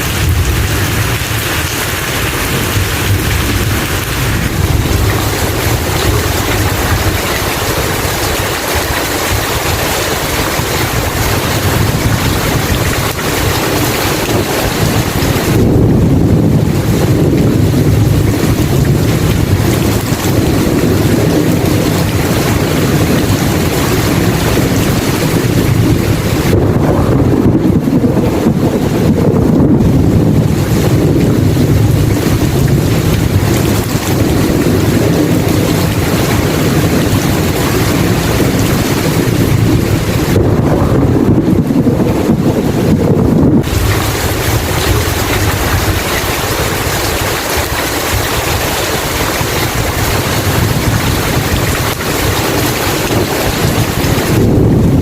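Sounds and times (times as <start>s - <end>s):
deep thunder rumble: 0.0s - 55.0s
heavy rain: 0.0s - 55.0s
wind noise: 0.0s - 55.0s.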